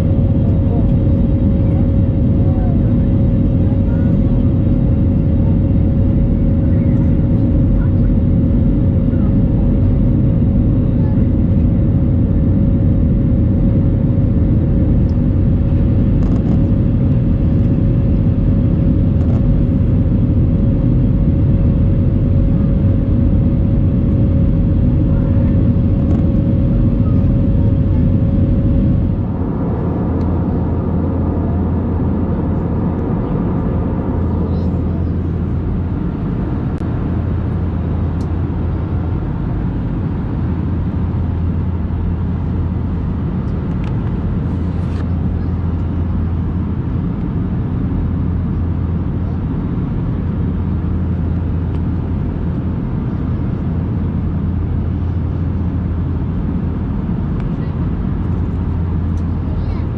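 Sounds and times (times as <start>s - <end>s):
constant hum: 0.0s - 59.9s
jet cabin roar: 0.0s - 59.9s.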